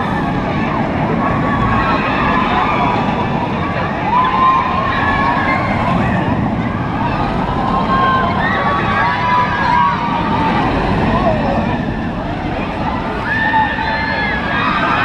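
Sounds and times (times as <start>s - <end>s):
roller coaster train on track: 0.0s - 15.0s.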